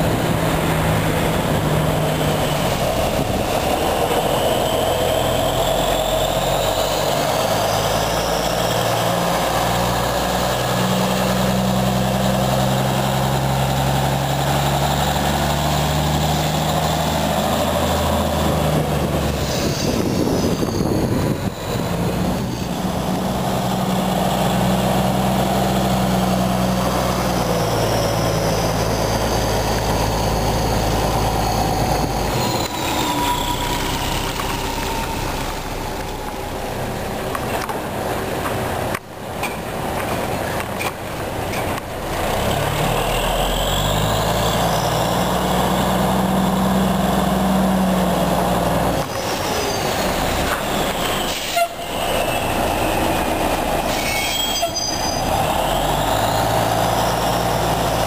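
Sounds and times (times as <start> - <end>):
fire truck diesel engine pulling away: 0.0 - 58.0.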